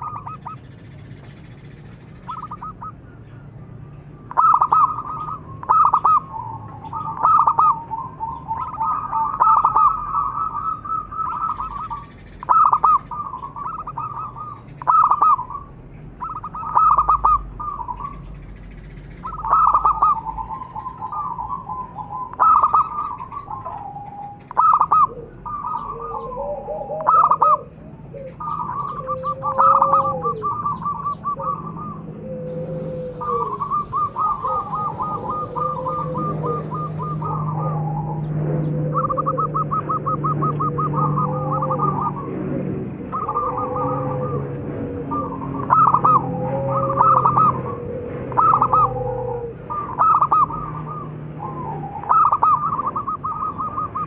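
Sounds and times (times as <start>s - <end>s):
dove cooing: 0.0s - 0.6s, 2.3s - 3.0s, 4.3s - 18.2s, 19.2s - 42.4s, 43.1s - 54.0s.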